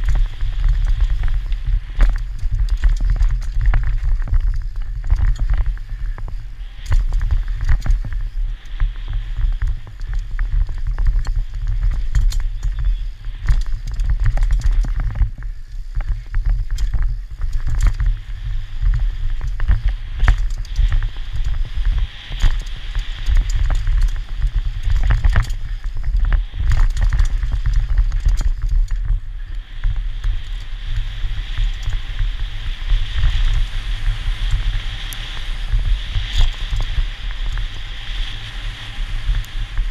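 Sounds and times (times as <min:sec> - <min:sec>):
bike rattling and knocking: 0:00.0 - 0:39.9
tyres hissing on dirt: 0:00.0 - 0:39.9
wind rumble on microphone: 0:00.0 - 0:39.9.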